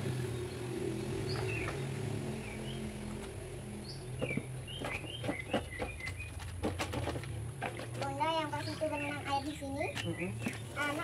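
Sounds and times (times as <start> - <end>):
small birds chirping: 0.0 - 6.9, 8.0 - 11.0.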